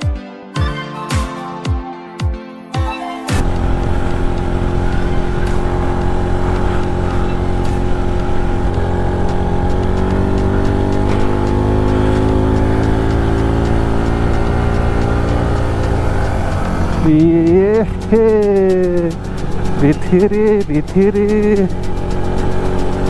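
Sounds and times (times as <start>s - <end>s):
motorcycle engine rumbling: 3.4s - 23.0s.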